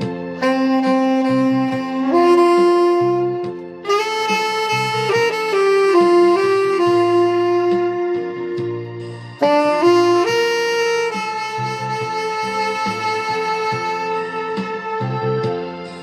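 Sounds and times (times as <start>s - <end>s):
tenor saxophone ballad melody: 0.0s - 16.0s.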